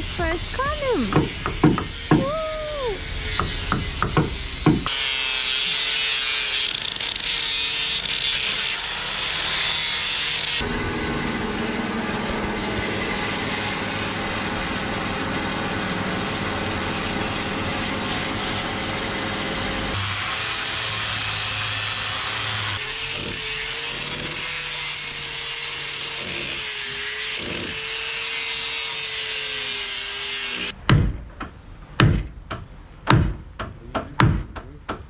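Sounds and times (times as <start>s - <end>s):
angle grinder sanding wood: 0.0s - 30.8s
bandsaw cutting timber: 0.0s - 30.8s.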